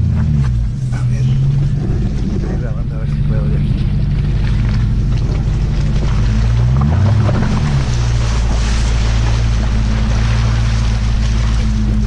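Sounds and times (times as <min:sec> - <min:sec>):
engine revving: 0:00.0 - 0:12.0
churning mud and water: 0:01.0 - 0:12.0.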